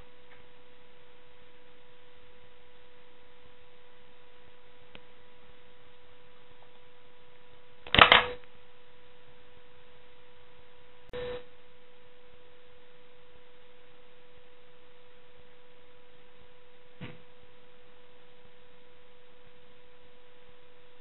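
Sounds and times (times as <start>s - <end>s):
steady pure tone: 0.0s - 21.0s.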